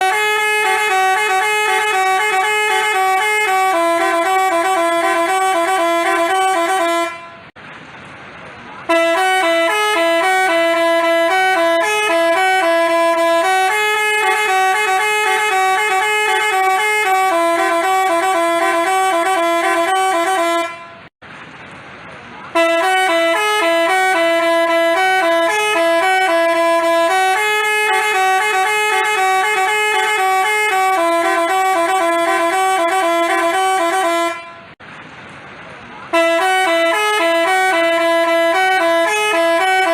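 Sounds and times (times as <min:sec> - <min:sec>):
multi-tone bus horn tune: 0:00.0 - 0:07.6, 0:08.8 - 0:21.1, 0:22.5 - 0:34.8, 0:36.1 - 0:39.9.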